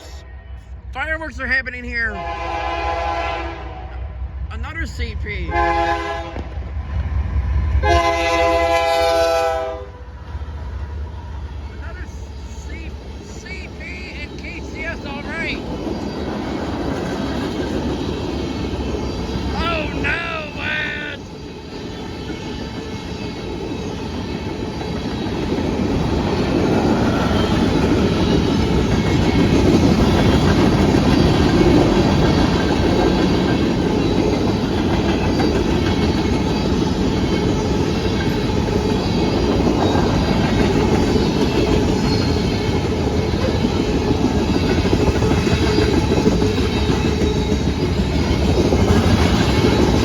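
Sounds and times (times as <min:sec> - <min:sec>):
freight train rumbling on rails: 0:00.0 - 0:50.0.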